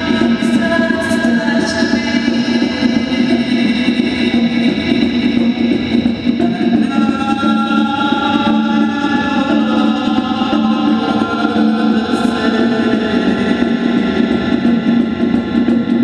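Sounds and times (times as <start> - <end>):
live band playing loud music: 0.0 - 16.0.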